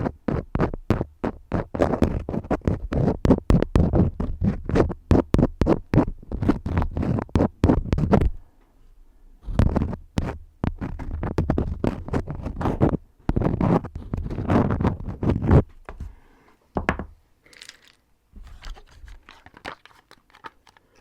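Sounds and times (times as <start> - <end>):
crayons scribbling: 0.0 - 8.3, 9.4 - 15.7, 17.6 - 21.0.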